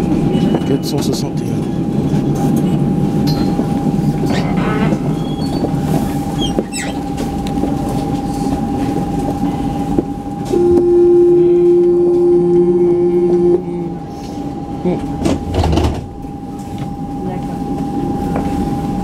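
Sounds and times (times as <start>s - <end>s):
tram electrical whine and rumble: 0.0s - 19.0s
tram signal tone: 0.0s - 19.0s.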